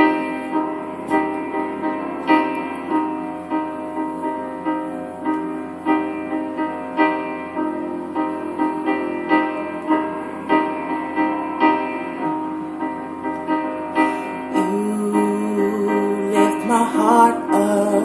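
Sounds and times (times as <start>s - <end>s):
piano playing repeated chords: 0.0s - 18.0s.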